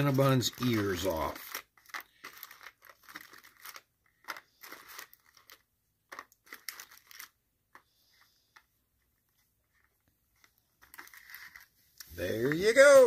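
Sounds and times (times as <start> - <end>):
cardboard crinkling and scraping: 0.0 - 7.4, 9.3 - 13.0.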